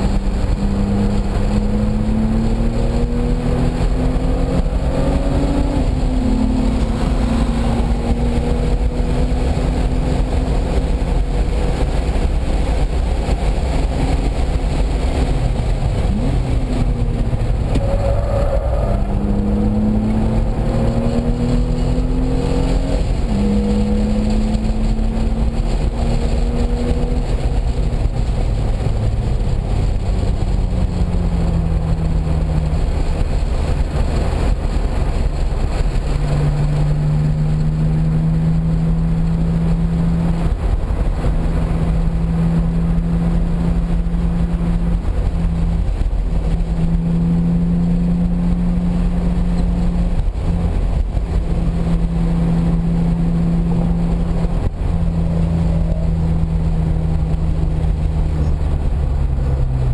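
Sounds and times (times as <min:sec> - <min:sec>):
car engine accelerating: 0:00.0 - 0:59.9
road and wind rumble: 0:00.0 - 0:59.9.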